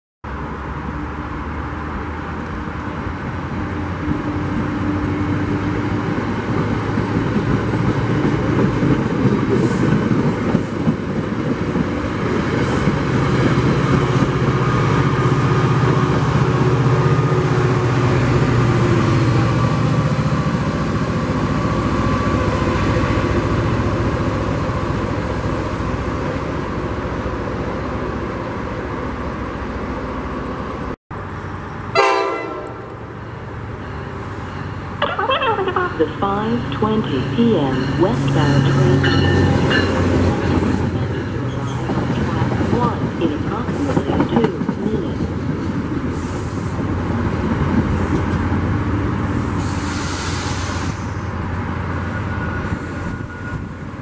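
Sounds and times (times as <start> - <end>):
train wheels rumbling on rail: 0.3 - 54.0.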